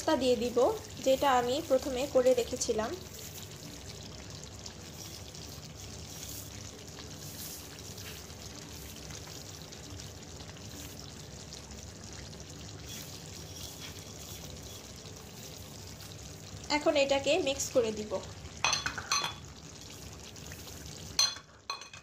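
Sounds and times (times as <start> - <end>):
gravy bubbling in a pot: 0.0 - 22.0.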